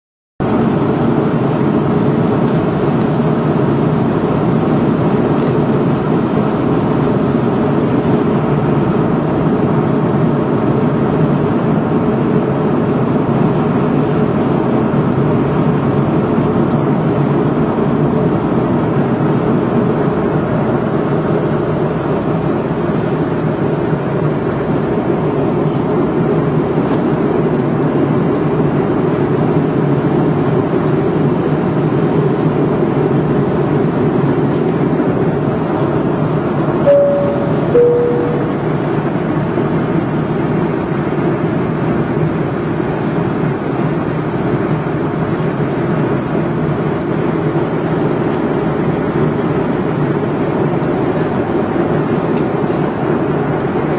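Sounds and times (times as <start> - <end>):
airliner cabin engine roar: 0.4 - 53.9.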